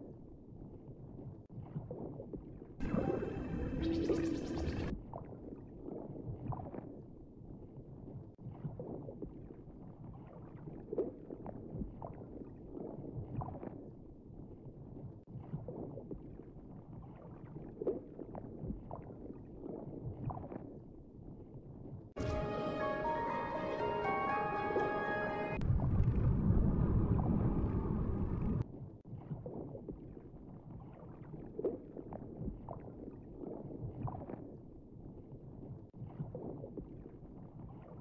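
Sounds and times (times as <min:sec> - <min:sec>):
muffled water sloshing: 0:01.4 - 0:22.5, 0:25.6 - 0:38.0.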